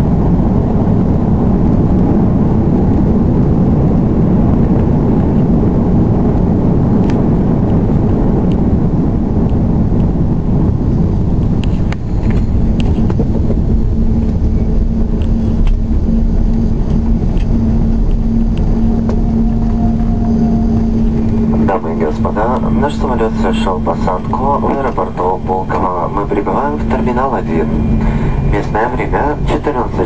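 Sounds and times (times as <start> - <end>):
engines and wheels rumbling: 0.0 - 30.0
steady hum: 0.0 - 30.0.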